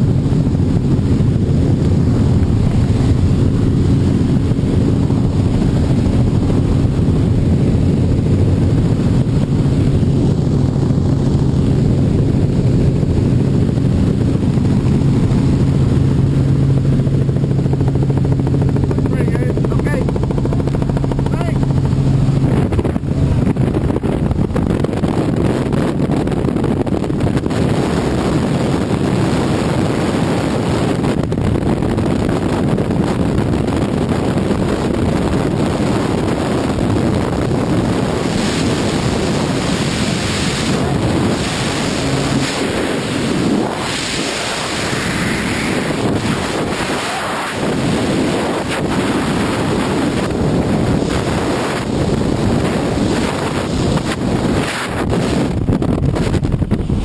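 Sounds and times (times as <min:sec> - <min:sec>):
helicopter engine and rotor: 0:00.0 - 0:29.7, 0:30.4 - 0:57.0
freefall air rushing: 0:00.0 - 0:57.0
wind noise on microphone: 0:00.0 - 0:57.0.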